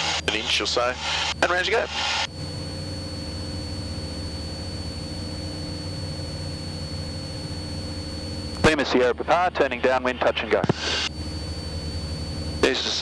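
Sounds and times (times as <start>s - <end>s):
aircraft engine droning: 0.0s - 13.0s
high-pitched whine: 0.0s - 13.0s.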